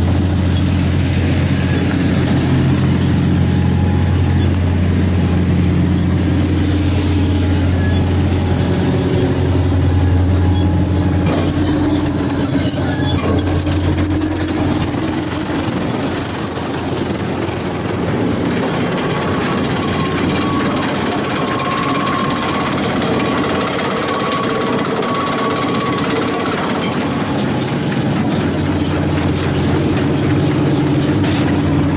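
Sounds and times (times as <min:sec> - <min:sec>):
baler mechanical clatter: 0:00.0 - 0:31.9
tractor engine hum: 0:00.0 - 0:31.9.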